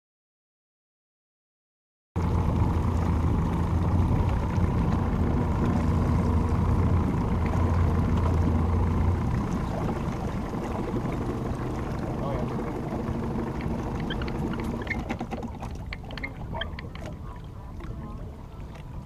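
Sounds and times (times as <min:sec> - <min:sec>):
outboard motor idling: 0:02.2 - 0:19.0.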